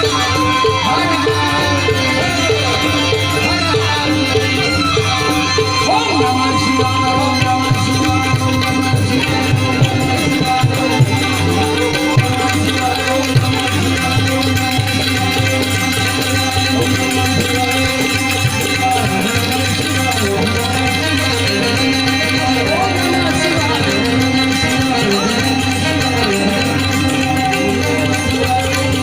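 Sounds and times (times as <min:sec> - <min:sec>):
held melodic tones: 0:00.0 - 0:29.0
tabla rhythm: 0:00.0 - 0:29.0.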